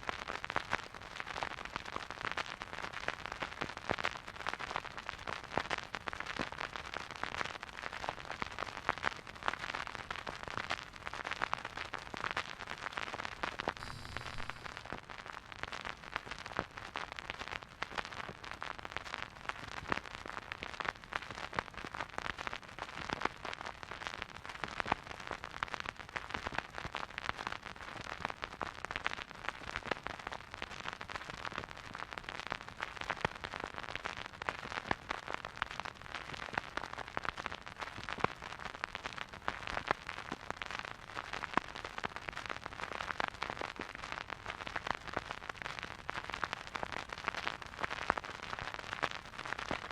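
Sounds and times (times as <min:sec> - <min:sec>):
vinyl record crackle and hiss: 0:00.0 - 0:49.9.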